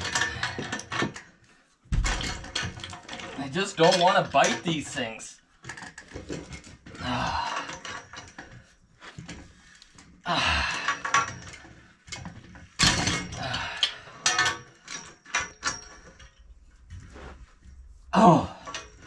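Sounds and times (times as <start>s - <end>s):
metal pipes clanking and scraping: 0.0s - 19.0s.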